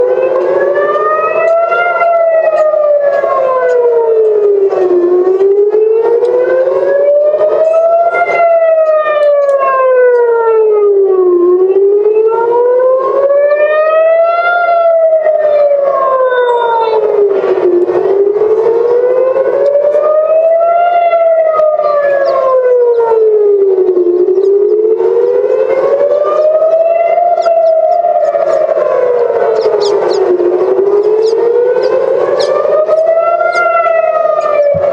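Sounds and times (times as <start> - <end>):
air-raid siren wailing: 0.0 - 34.9.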